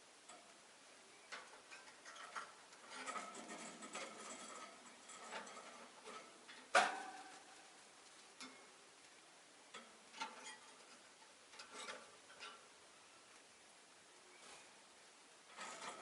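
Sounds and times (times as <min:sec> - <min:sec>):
birds chirping faintly: 0:00.0 - 0:16.0.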